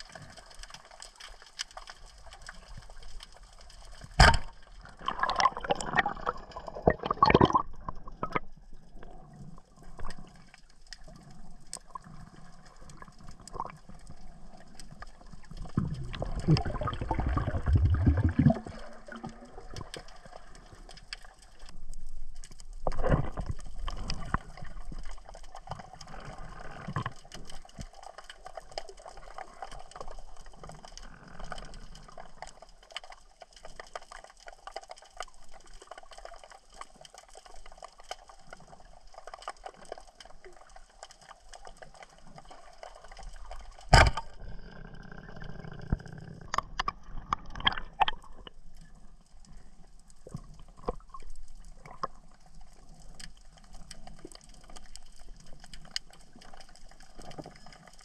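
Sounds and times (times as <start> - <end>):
crackle of small clicks: 0.0 - 58.0
underwater water noise: 0.0 - 58.0.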